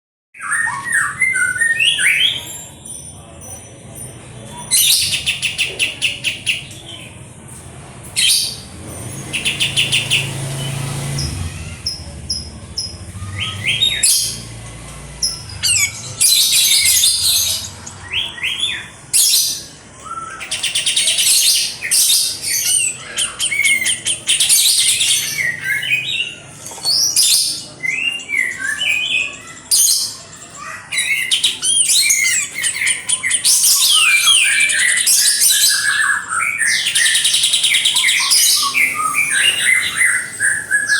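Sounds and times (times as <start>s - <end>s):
bulbul chattering trills and chirps: 0.4s - 7.3s, 8.1s - 40.9s.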